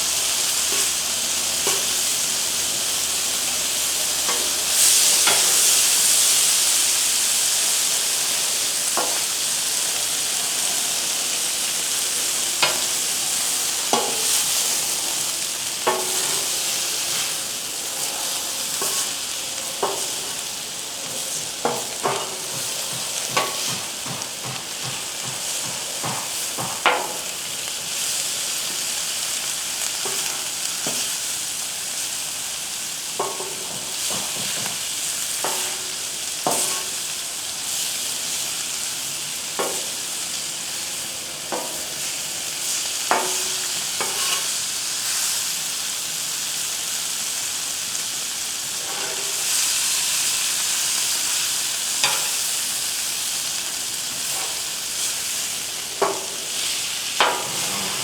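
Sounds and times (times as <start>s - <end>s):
spatula scraping griddle: 0.0s - 6.9s, 8.2s - 28.9s, 29.5s - 31.3s, 33.1s - 38.5s, 39.5s - 44.7s, 48.6s - 51.4s, 52.0s - 52.5s, 54.1s - 58.0s
vegetables sizzling on a griddle: 0.0s - 58.0s.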